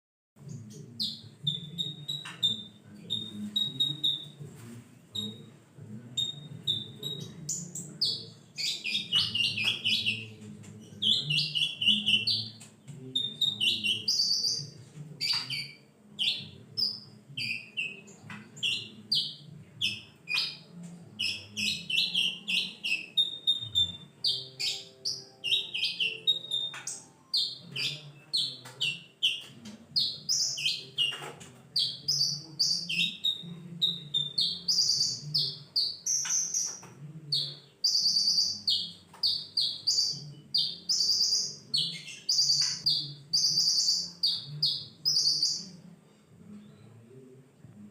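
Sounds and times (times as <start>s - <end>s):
bird chirping and trilling: 0.5s - 4.4s, 5.1s - 5.5s, 6.2s - 45.8s.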